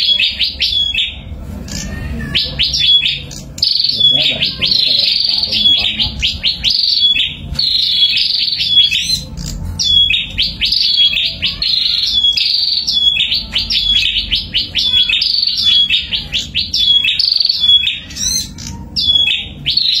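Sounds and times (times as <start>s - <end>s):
birds chattering song: 0.0s - 20.0s.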